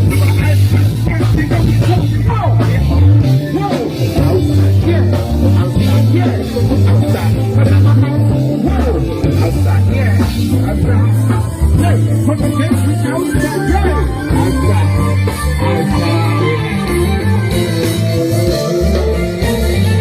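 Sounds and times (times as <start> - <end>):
deep bass line: 0.0 - 20.0
live music over loudspeakers: 0.0 - 20.0
person singing: 0.0 - 20.0.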